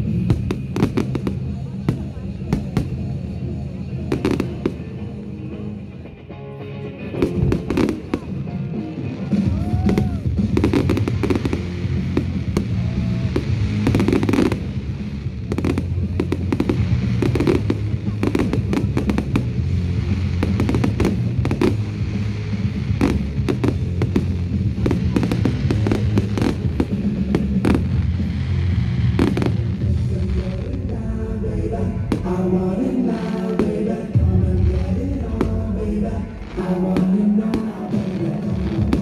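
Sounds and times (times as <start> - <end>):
fireworks bangs and crackles: 0.0 - 5.6, 7.2 - 39.0
music with deep bass line: 0.0 - 39.0.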